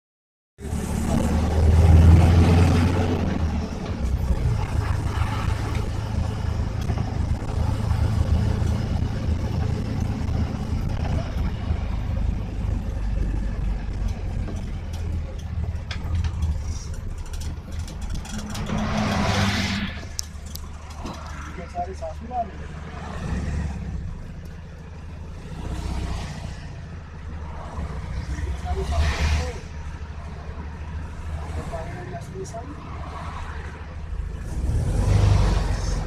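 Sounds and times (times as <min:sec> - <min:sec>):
engine humming: 0:00.6 - 0:36.0.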